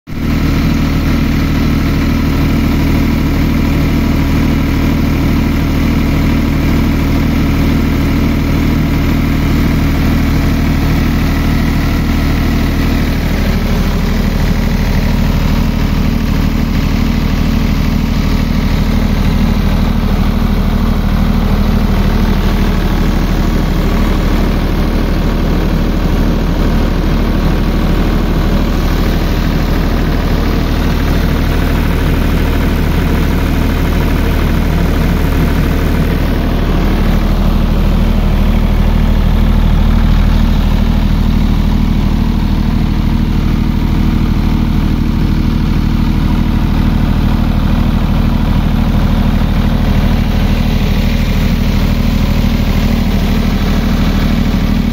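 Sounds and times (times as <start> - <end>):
diesel generator running: 0.1 - 54.9.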